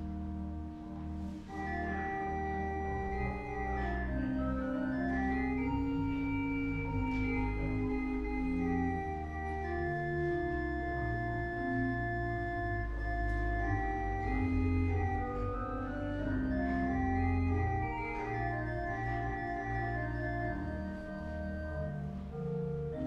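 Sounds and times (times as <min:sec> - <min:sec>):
church organ playing chords: 0:00.0 - 0:23.0.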